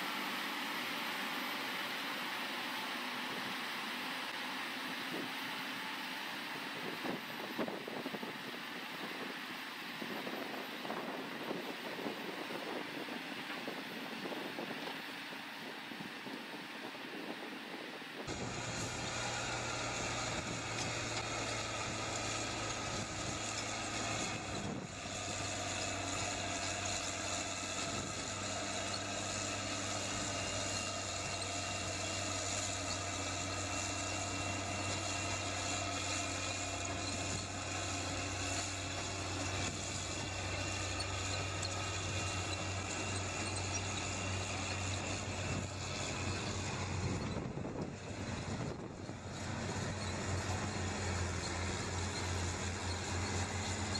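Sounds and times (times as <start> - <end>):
diesel engines droning: 0.0 - 53.9.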